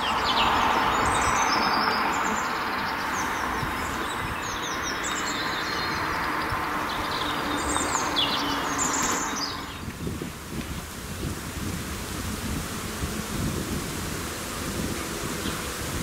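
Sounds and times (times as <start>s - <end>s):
small songbirds singing: 0.0s - 11.8s, 13.4s - 16.0s
outdoor background hiss: 0.0s - 16.0s.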